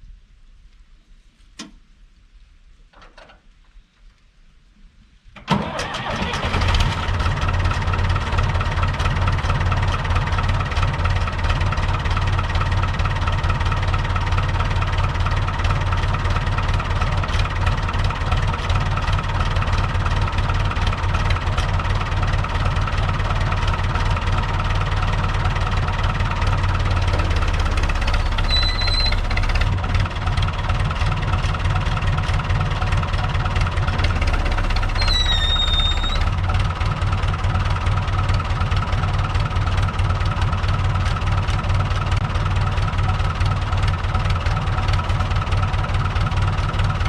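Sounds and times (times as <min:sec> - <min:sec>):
tractor engine starting and idling: 0:05.4 - 0:47.0.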